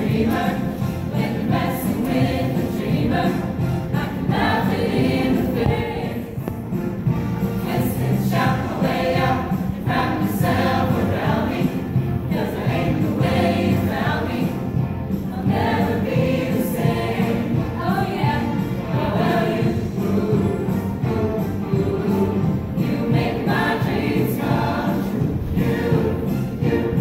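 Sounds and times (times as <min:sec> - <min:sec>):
choir singing with accompaniment: 0:00.0 - 0:27.0.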